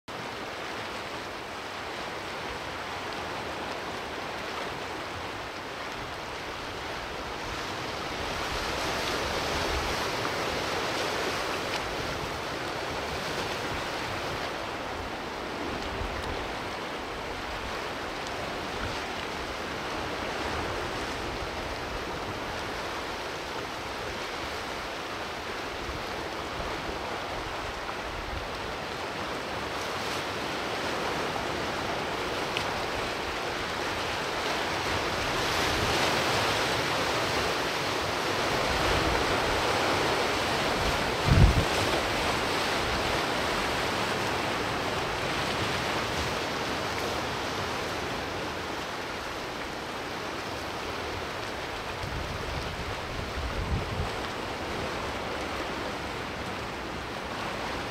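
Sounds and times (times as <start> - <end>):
sea waves washing on rocks: 0.1 - 57.9.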